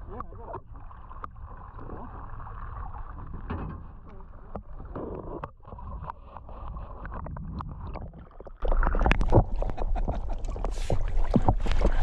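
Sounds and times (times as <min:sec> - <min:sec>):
canoe paddle splashing: 0:00.0 - 0:12.0
muffled underwater water sound: 0:00.0 - 0:12.0.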